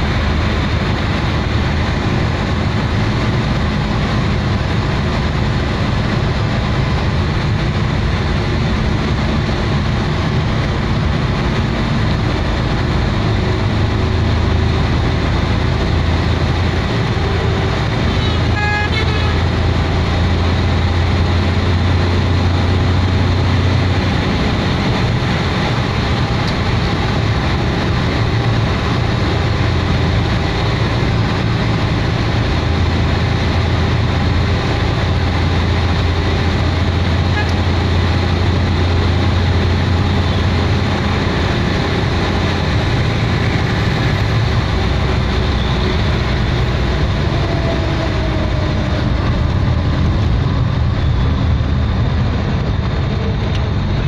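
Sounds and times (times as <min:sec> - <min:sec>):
vehicle engine and road hum: 0:00.0 - 0:54.0.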